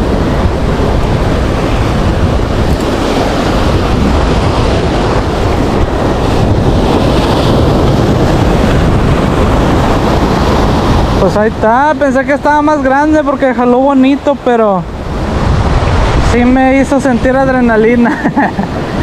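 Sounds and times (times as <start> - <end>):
surf breaking on rocks: 0.0 - 19.0
wind buffeting microphone: 0.0 - 19.0.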